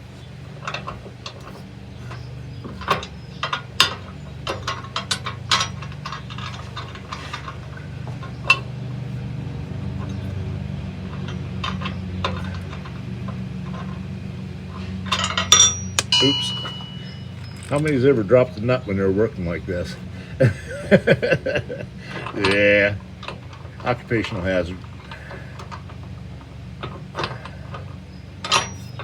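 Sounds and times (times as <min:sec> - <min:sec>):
low steady hum: 0:00.0 - 0:29.0
metal bolts and tools clinking: 0:00.1 - 0:20.1, 0:20.9 - 0:29.0.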